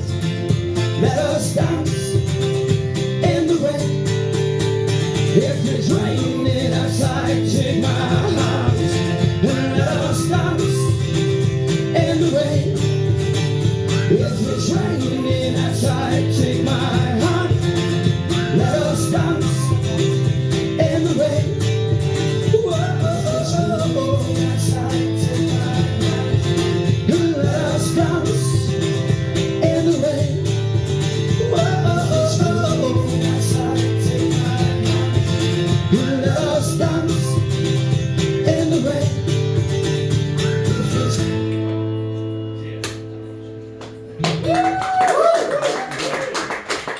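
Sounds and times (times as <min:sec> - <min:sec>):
live band music led by guitar: 0:00.0 - 0:44.8.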